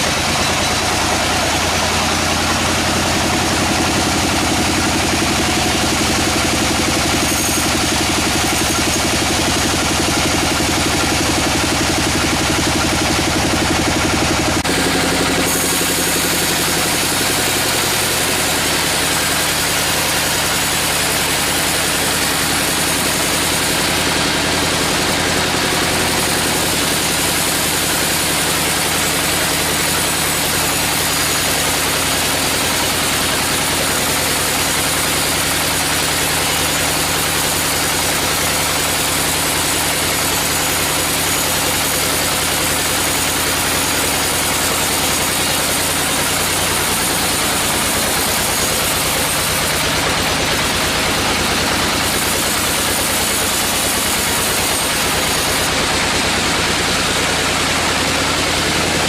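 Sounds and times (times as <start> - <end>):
engine drone: 0.0 - 59.0.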